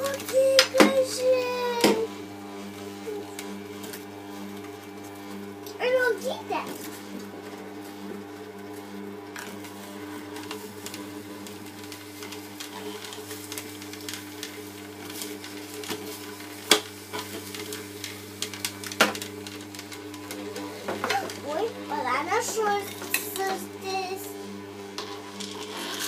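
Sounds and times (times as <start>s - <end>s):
juicer motor humming: 0.0s - 26.0s.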